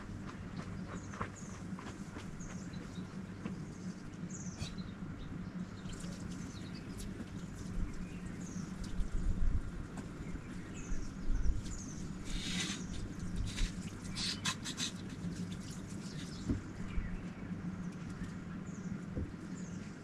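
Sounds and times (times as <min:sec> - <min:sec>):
birds chirping: 0:00.0 - 0:20.0
low steady hum: 0:00.0 - 0:20.0.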